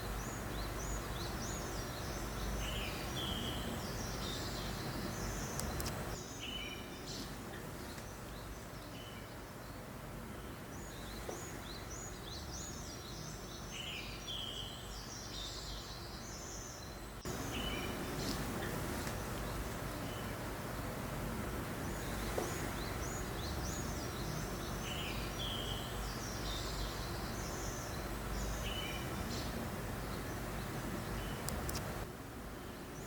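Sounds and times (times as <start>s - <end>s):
breeze noise: 0.0s - 13.1s, 17.0s - 32.9s
small birds chirping: 0.0s - 33.0s.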